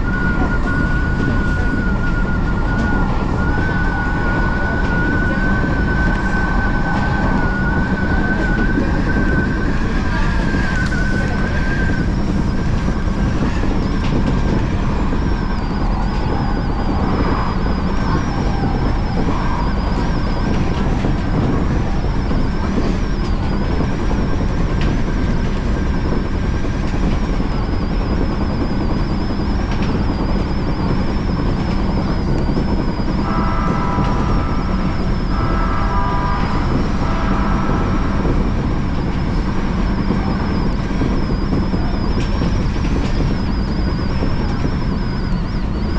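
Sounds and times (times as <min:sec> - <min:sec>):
faint wavering high whine: 0:00.0 - 0:45.9
train wheels rumbling on rails: 0:00.0 - 0:45.9.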